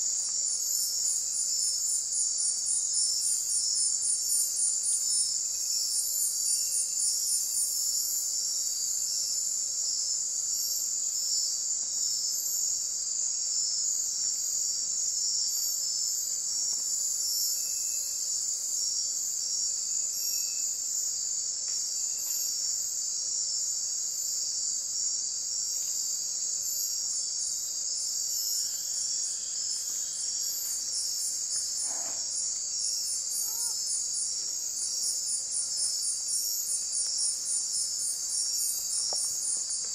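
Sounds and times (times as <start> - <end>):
crickets trilling: 0.0 - 39.9
fast pulsing insect trill: 0.0 - 39.9.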